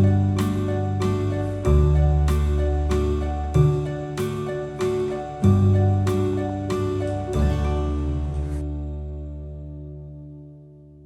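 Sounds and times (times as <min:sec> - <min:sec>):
sustained plucked chord: 0:00.0 - 0:11.0.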